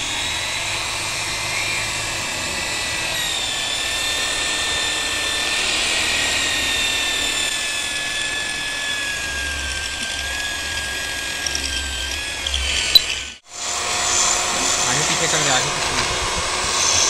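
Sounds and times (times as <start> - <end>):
electric drill drilling metal: 0.0 - 17.0.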